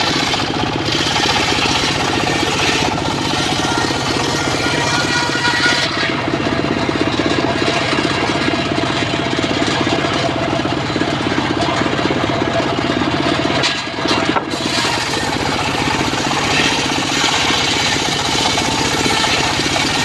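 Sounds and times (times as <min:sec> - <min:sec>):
sawmill engine running: 0:00.0 - 0:20.0.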